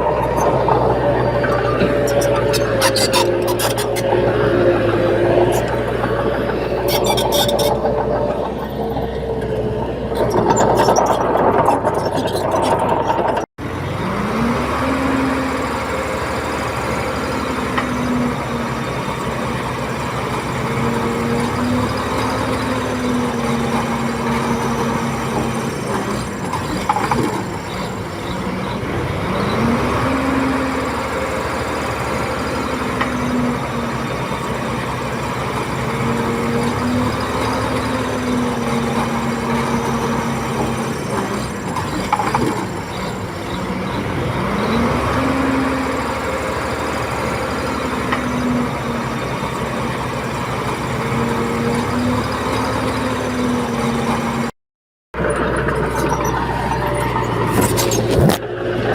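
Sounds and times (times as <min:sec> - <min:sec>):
bulldozer diesel engine under load: 0:00.0 - 0:58.9.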